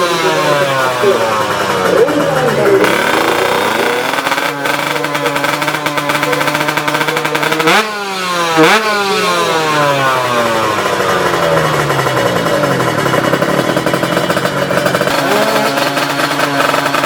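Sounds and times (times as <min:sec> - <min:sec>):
two-stroke motorbike engine revving: 0:00.0 - 0:17.0.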